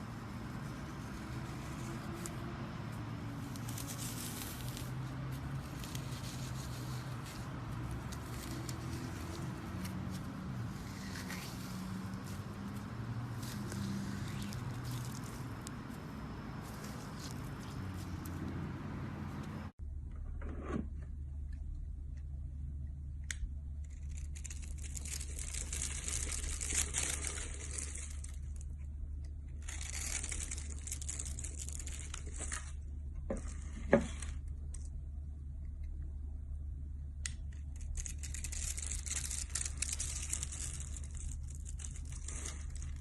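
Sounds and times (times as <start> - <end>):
crisp high crackle: 0.0 - 18.4, 23.8 - 34.9, 37.4 - 43.0
crunching and squishing handling: 0.0 - 18.4, 23.8 - 34.9, 37.3 - 43.0
textured rustle: 0.0 - 19.7, 23.8 - 34.9, 37.2 - 43.0
low hum: 0.0 - 43.0.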